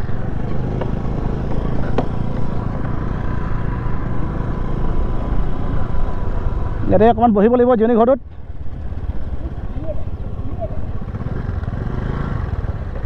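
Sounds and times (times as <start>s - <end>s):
scooter engine rumbling: 0.0s - 13.0s.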